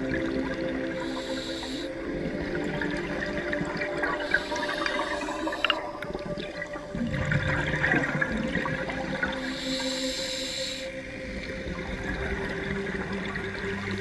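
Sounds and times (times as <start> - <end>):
underwater bubbles gurgling: 0.0 - 14.0.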